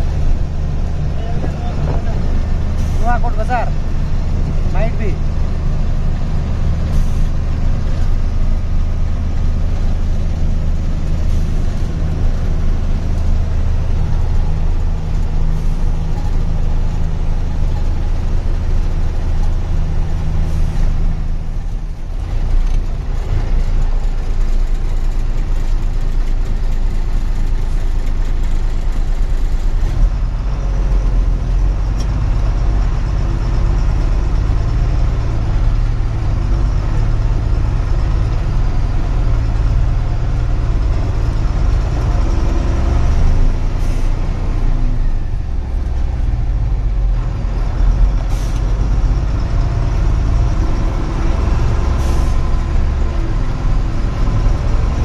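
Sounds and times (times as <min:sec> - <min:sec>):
road noise: 0:00.0 - 0:55.0
truck engine running: 0:00.0 - 0:55.0.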